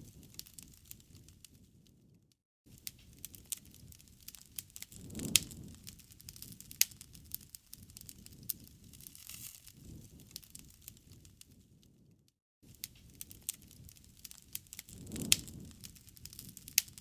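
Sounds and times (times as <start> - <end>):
low rush of flames: 0.0 - 17.0
wood fire crackling: 0.0 - 17.0.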